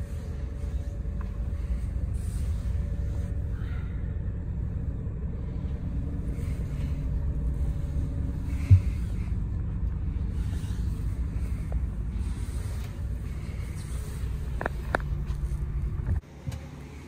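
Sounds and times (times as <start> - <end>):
coach engine rumble: 0.0 - 17.0.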